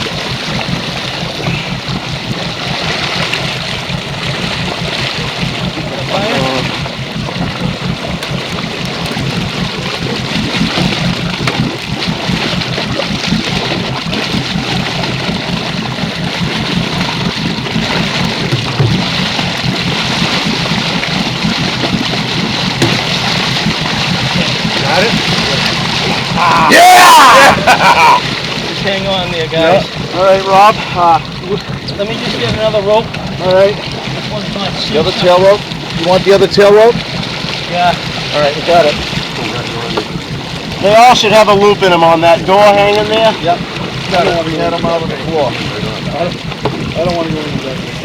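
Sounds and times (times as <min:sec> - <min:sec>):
boat engine running: 0:00.0 - 0:48.0
water splashing along hull: 0:00.0 - 0:48.0.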